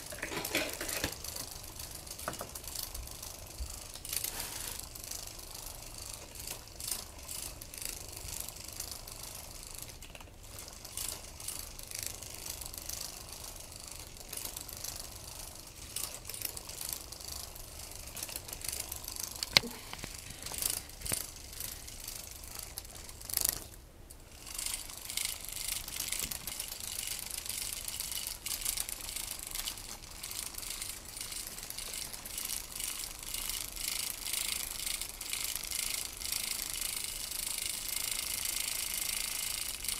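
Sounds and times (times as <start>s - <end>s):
toy motor clicking rattle: 0.0s - 39.9s.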